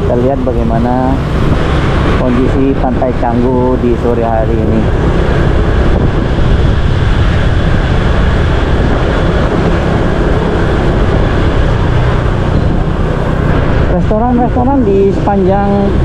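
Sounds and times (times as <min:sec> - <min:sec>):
motorbike engine: 0:00.0 - 0:16.0
road noise: 0:00.0 - 0:16.0
wind buffeting microphone: 0:00.0 - 0:16.0.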